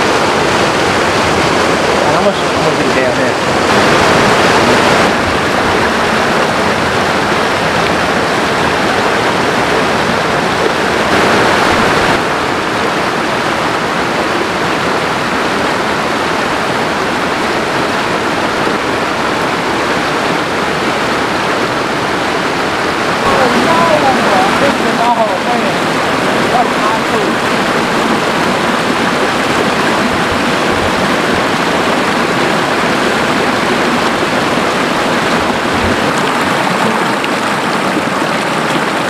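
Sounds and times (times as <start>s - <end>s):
creek water rushing over stones: 0.0s - 39.0s.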